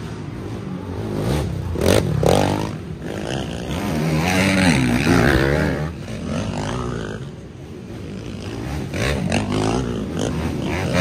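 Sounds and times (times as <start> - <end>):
racing atv engines revving: 0.0 - 11.0.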